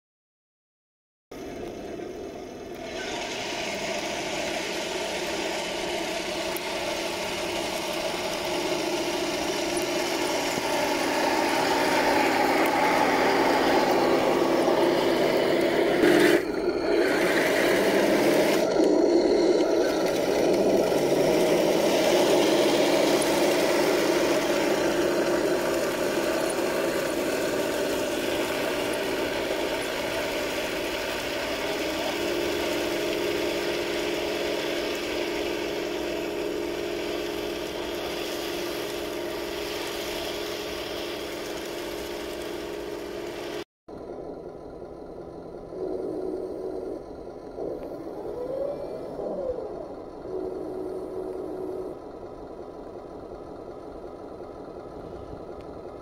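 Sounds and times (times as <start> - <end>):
model tank motor drone: 1.4 - 56.0.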